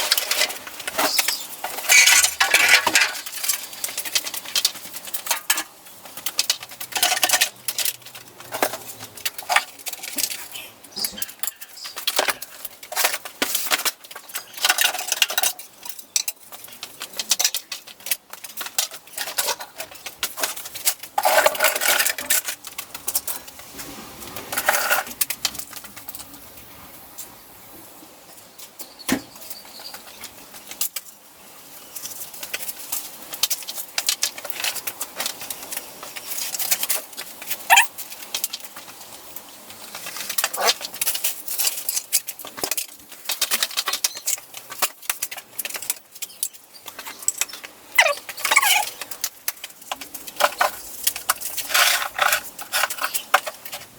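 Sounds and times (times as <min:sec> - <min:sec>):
rustling: 0:00.0 - 0:27.4, 0:28.2 - 0:53.9.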